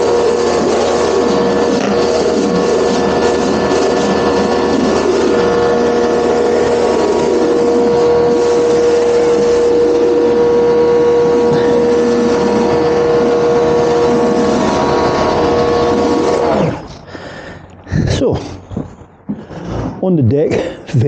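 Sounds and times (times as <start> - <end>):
water jet hissing: 0.0 - 16.9
pressure washer running: 0.0 - 17.7.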